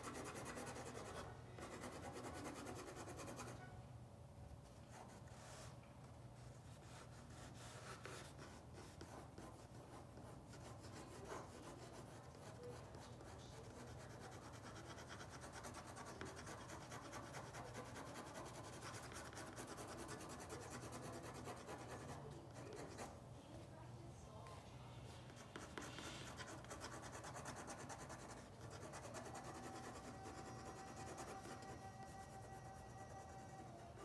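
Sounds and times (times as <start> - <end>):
art tool scratching on paper: 0.0 - 3.7, 6.6 - 23.2, 25.3 - 34.0.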